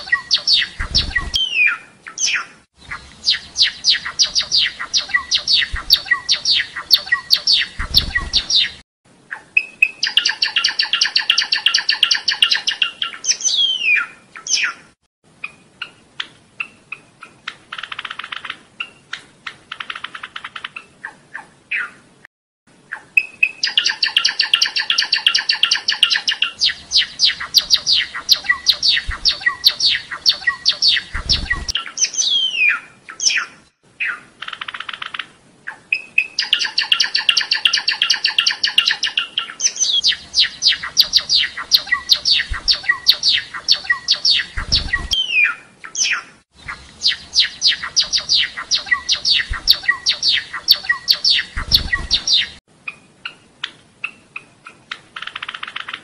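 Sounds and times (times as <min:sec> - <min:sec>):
sparrow song high chipping: 0:00.0 - 0:22.0, 0:22.8 - 0:56.0.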